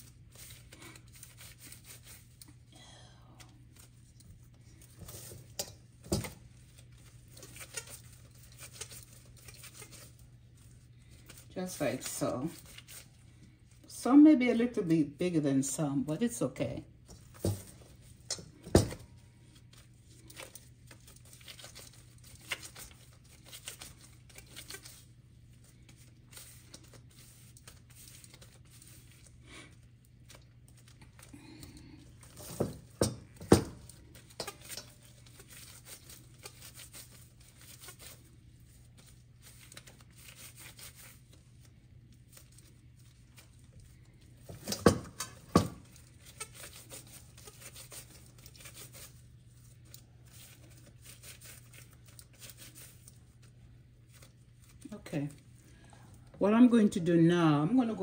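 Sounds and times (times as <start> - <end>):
dough being worked by hand: 0.0 - 2.7, 3.6 - 14.3, 17.0 - 55.5.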